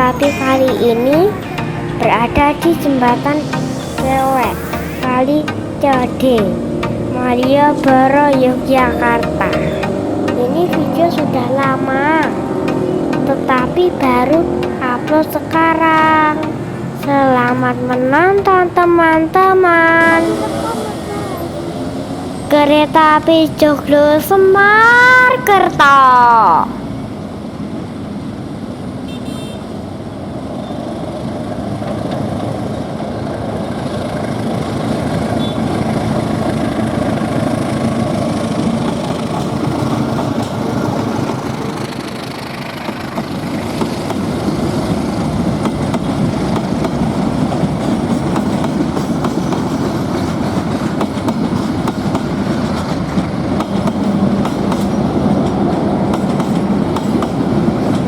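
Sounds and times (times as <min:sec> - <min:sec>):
train rumbling past: 0:00.0 - 0:25.7, 0:29.7 - 0:58.0.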